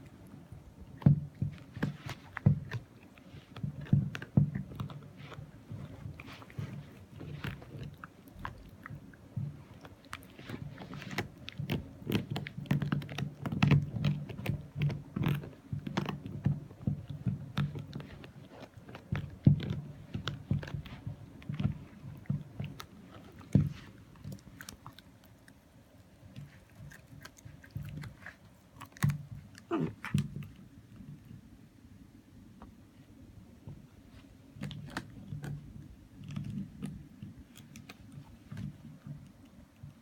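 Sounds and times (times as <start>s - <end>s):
puppy chewing: 0.0s - 31.7s, 32.6s - 40.0s.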